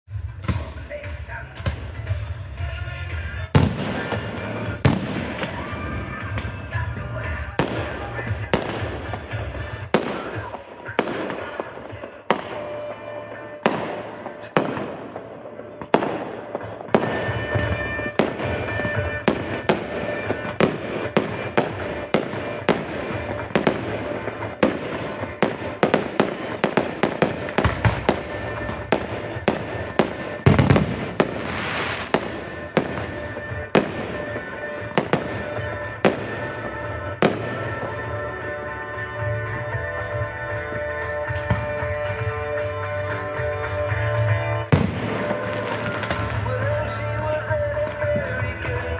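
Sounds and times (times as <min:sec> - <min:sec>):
fireworks bangs: 0:00.4 - 0:43.6, 0:44.7 - 0:48.9.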